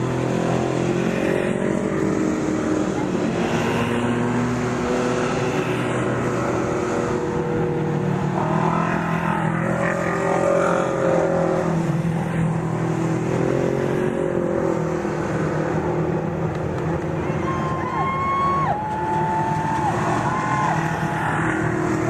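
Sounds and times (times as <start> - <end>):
race vehicle engines running: 0.0 - 22.0.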